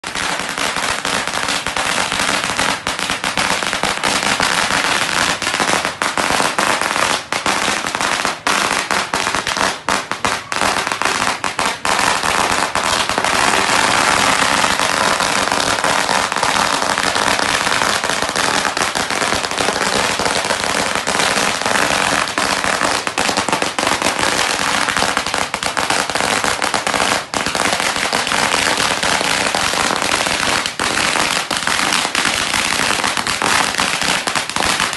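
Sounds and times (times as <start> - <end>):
firecrackers crackling: 0.0 - 34.9.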